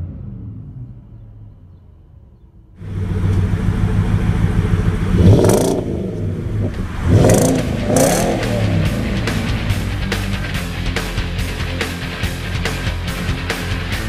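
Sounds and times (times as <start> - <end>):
truck engine idling and revving: 0.0 - 14.0.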